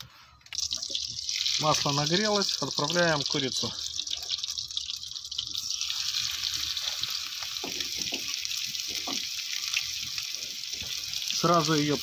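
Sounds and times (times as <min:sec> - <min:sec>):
chicken sizzling in frying pan: 0:00.6 - 0:12.0.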